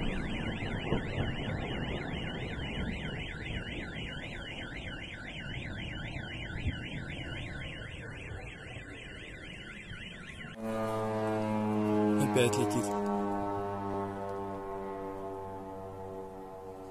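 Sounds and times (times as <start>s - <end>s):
electronic alarm siren warbling: 0.0s - 16.9s.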